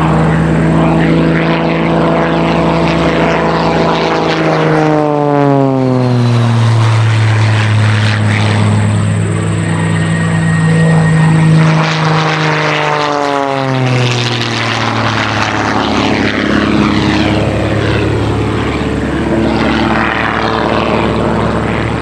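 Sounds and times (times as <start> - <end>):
propeller planes flying past: 0.0 - 22.0.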